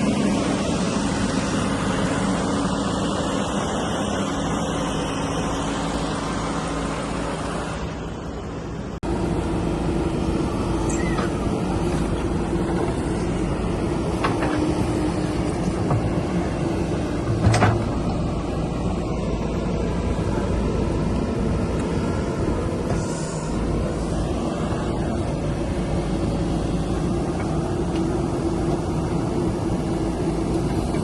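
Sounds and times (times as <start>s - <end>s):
heavy machinery diesel engine: 0.0s - 31.0s.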